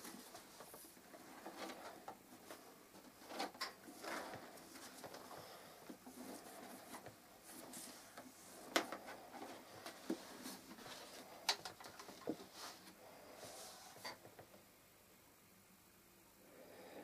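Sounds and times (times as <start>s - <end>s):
clothing rustling: 0.0s - 14.2s.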